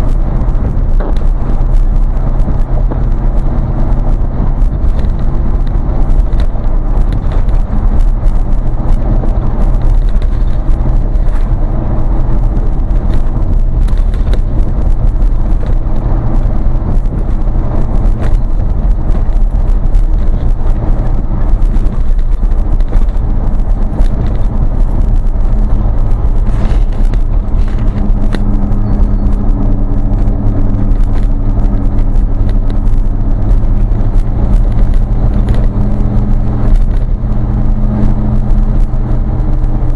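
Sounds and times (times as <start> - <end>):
road rumble: 0.0 - 39.9
vehicle engine drone: 0.0 - 39.9.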